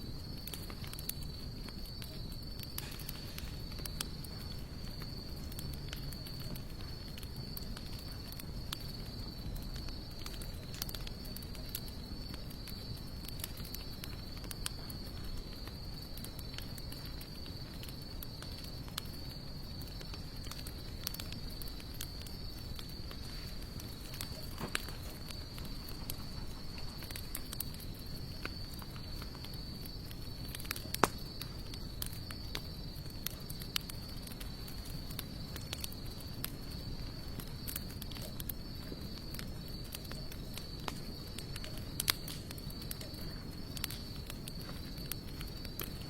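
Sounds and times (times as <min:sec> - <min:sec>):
insect trill: 0:00.0 - 0:46.0
wood fire crackling and popping: 0:00.0 - 0:46.0.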